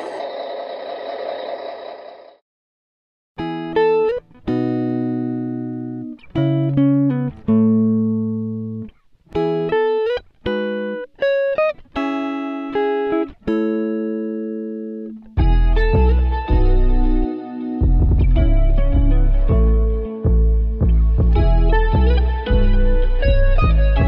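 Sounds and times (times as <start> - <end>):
plucked guitar music: 3.4 - 24.0.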